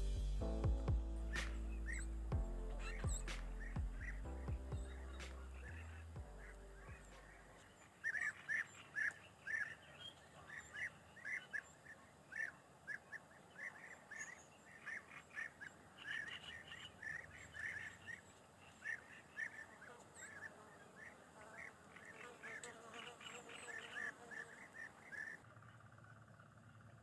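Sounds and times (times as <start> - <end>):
faint background hiss: 0.0 - 26.9
small birds chirping: 0.0 - 27.0.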